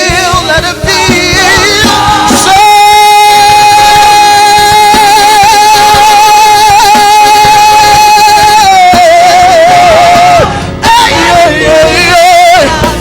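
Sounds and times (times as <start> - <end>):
band backing music: 0.0 - 13.0.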